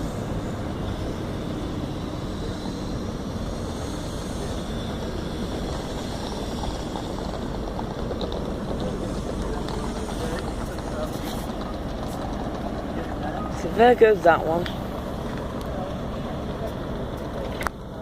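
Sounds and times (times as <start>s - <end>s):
diesel train engine rumble: 0.0s - 18.0s.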